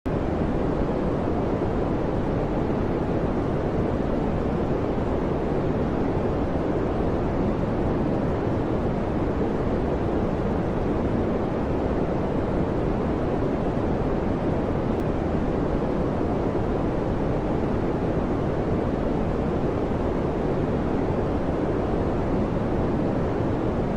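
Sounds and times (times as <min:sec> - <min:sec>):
fan noise: 0:00.1 - 0:23.9.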